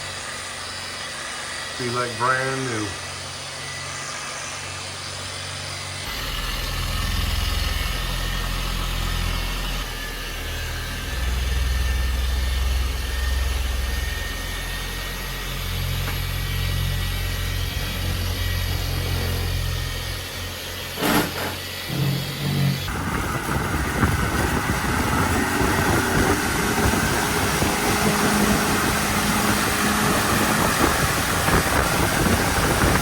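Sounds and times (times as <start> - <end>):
engine running with low rumble: 4.5 - 33.0.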